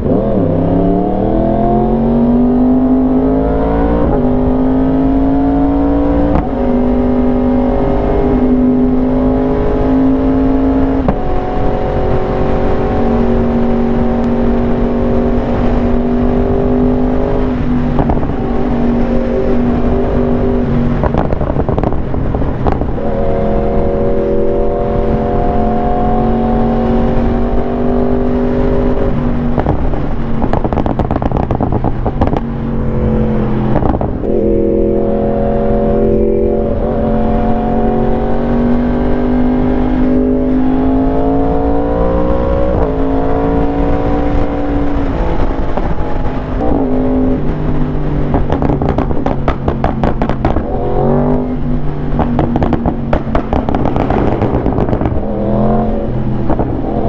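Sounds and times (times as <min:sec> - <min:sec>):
motorcycle engine at speed: 0:00.0 - 0:57.0
wind rushing over microphone: 0:00.0 - 0:57.0.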